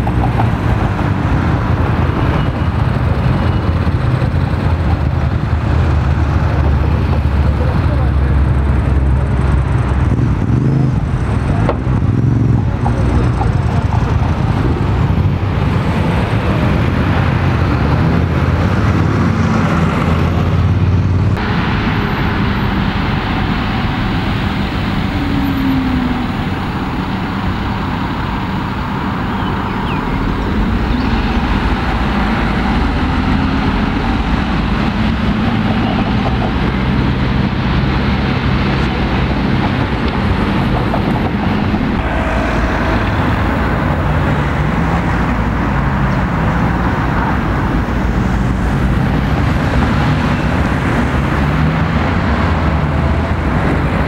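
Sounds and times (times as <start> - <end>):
bus engine low drone: 0.0 - 54.0
street traffic passing: 0.0 - 54.0.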